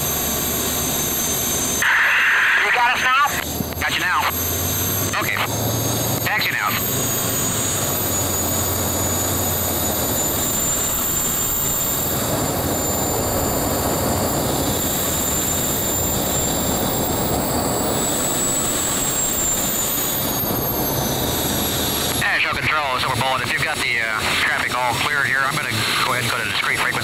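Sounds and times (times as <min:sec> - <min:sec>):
small jet engine whine: 0:00.0 - 0:27.0.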